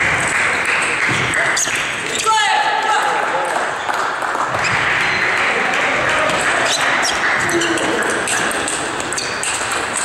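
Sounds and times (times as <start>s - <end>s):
sports hall noise: 0.0s - 10.0s.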